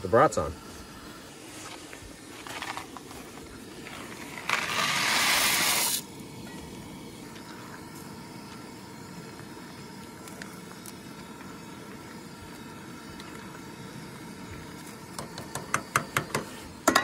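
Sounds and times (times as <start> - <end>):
stove burner hissing: 0.0 - 17.0.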